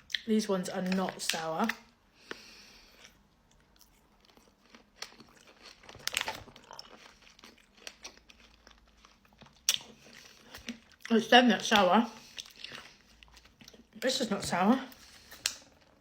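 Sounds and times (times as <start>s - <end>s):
person chewing sweets: 0.0s - 14.1s.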